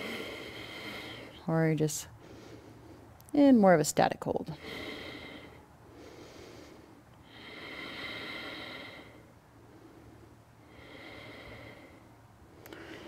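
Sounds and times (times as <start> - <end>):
woman breathing slowly: 0.0 - 3.2, 4.5 - 13.0.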